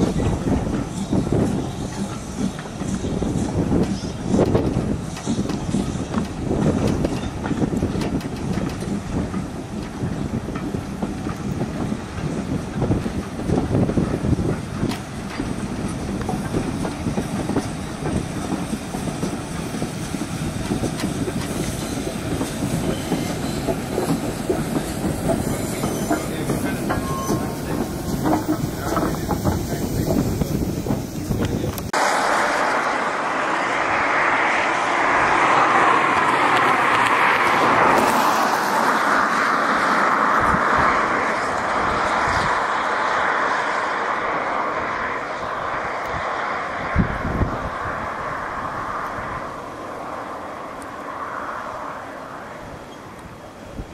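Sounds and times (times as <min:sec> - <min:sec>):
train wheels clattering on rails: 0:00.0 - 0:33.2, 0:33.8 - 0:53.9.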